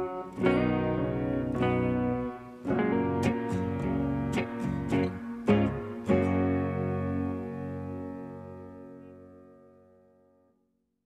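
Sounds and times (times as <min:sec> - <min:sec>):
instrumental music with held chords: 0:00.0 - 0:10.9.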